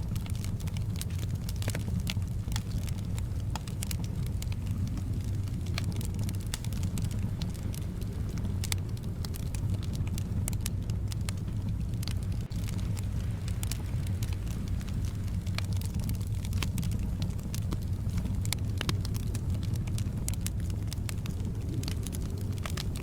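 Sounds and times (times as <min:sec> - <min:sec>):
soft wind rumble: 0:00.0 - 0:23.0
wood fire crackling: 0:00.0 - 0:23.0.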